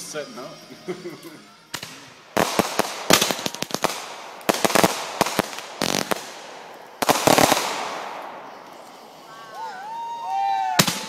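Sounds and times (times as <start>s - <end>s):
fireworks bangs and crackles: 1.7s - 11.0s.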